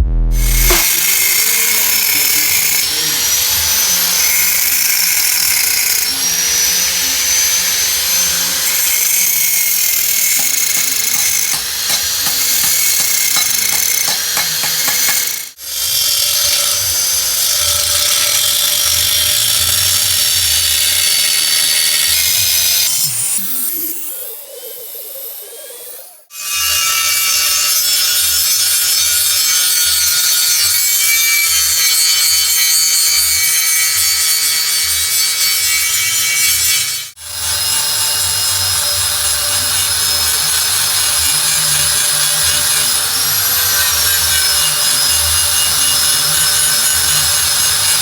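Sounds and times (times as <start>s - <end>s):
power tool running with hiss: 0.4s - 48.0s.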